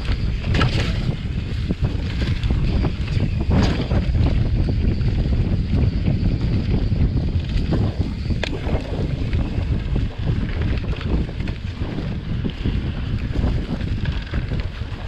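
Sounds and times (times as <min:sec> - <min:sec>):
bike ticks and rattles: 0:00.0 - 0:15.0
bike tyres rumbling on trail: 0:00.0 - 0:15.0
wind buffeting microphone: 0:00.0 - 0:15.0.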